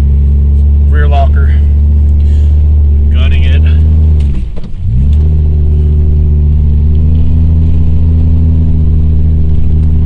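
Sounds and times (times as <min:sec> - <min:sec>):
van engine at full throttle: 0:00.0 - 0:10.0.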